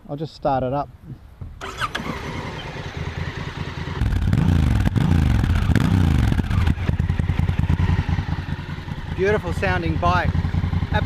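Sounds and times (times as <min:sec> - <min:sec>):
motorcycle engine idling and revving: 0:01.6 - 0:11.0.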